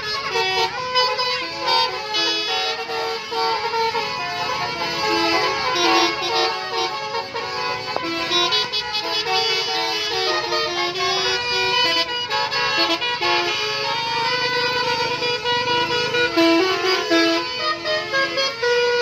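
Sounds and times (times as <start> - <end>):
multi-tone musical bus horn: 0.0 - 19.0.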